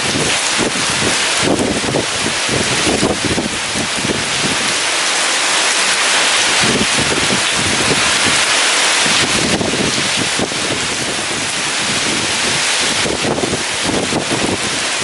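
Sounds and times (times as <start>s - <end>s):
wind buffeting microphone: 0.0s - 4.9s, 5.8s - 15.0s
heavy rain hissing: 0.0s - 15.0s.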